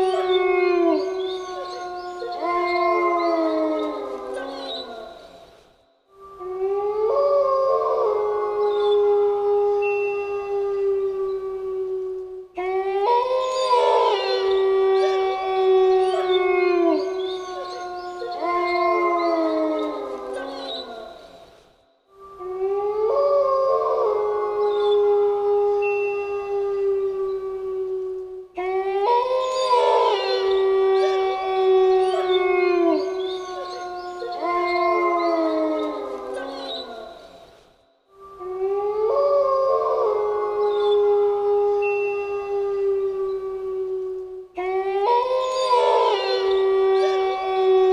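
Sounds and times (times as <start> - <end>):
wolves howling: 0.0 - 5.4, 6.3 - 21.4, 22.3 - 37.5, 38.3 - 47.9.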